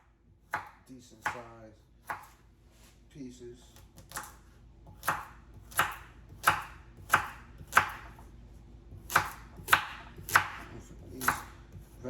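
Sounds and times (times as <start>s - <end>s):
knife chopping carrots on board: 0.0s - 2.4s, 3.6s - 12.0s.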